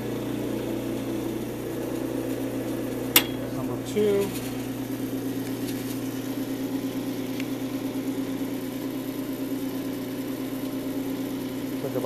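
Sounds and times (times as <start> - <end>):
wood lathe running: 0.0 - 12.0.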